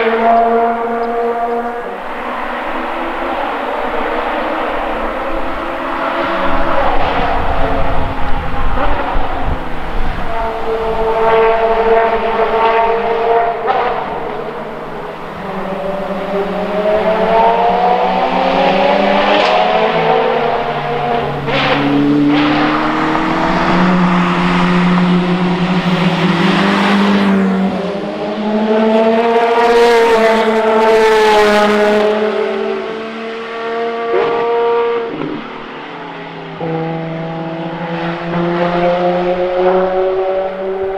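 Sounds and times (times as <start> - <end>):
race car engines passing at high revs: 0.0 - 40.9.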